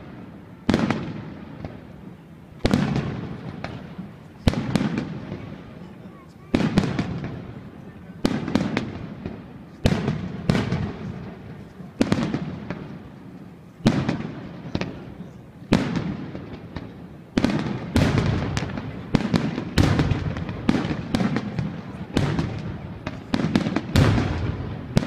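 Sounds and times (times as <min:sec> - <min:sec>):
fireworks bursting with echo: 0:00.0 - 0:25.0.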